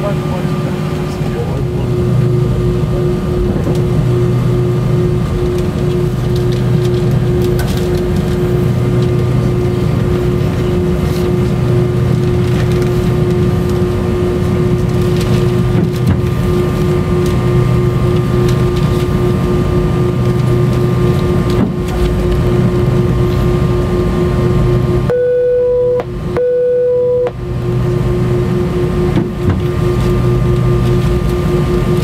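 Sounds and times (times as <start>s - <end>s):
high steady engine whine: 0.0s - 32.0s
jet engines humming at idle: 0.0s - 32.0s
low rumble: 0.9s - 32.0s.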